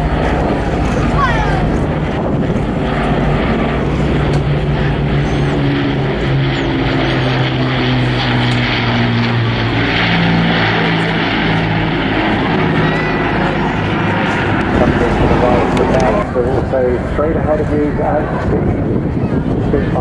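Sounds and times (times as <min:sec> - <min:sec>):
propeller aircraft engine droning: 0:00.0 - 0:20.0.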